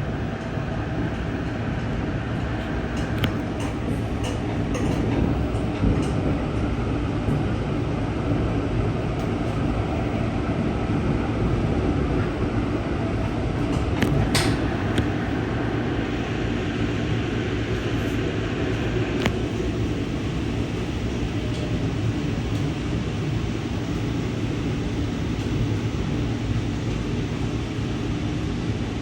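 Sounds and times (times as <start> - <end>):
train car rumble: 0.0 - 29.0.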